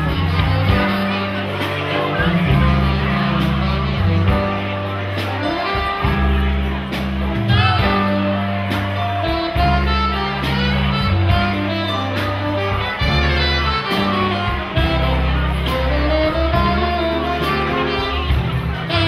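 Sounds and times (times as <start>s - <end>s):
saxophone melody: 0.0s - 19.0s
upright bass plucking: 0.0s - 19.0s.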